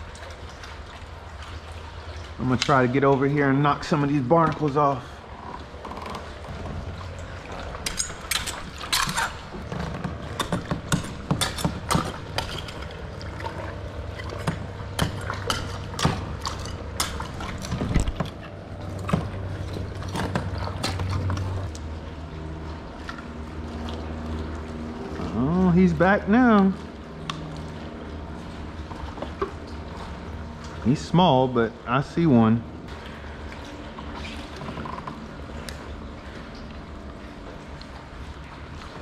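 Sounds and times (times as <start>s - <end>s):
steady low hum: 0.0s - 39.0s
water sounds: 0.0s - 39.0s.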